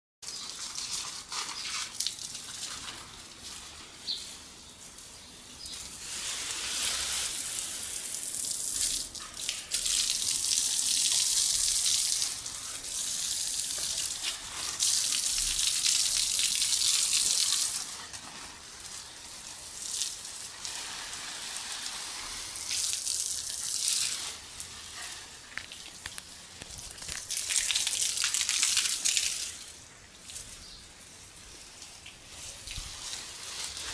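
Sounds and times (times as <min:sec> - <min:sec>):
water spraying from garden hose: 0:00.2 - 0:33.9.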